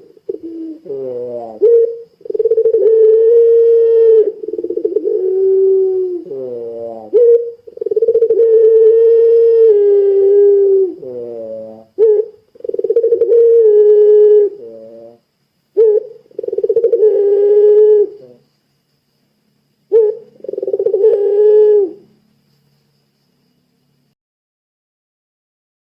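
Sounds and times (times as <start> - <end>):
dove cooing: 0.0 - 18.5, 19.9 - 22.2.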